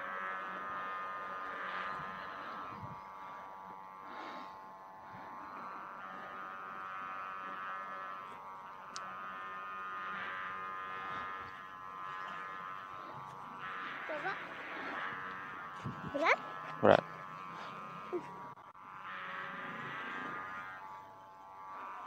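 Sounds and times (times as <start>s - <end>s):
kite hummer buzzing in wind: 0.0s - 22.0s.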